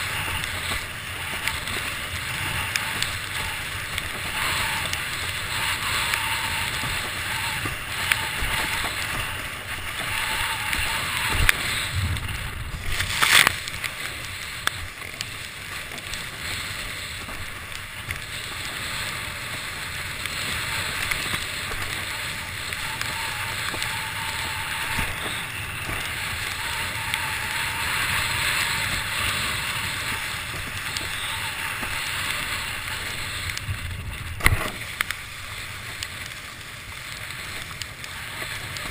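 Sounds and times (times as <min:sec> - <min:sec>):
rush of wind and water: 0:00.0 - 0:38.9.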